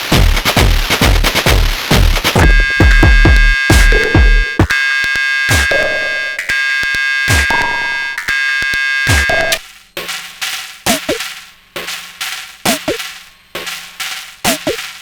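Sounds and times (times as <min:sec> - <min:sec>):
drum machine kick drums: 0:00.0 - 0:15.0.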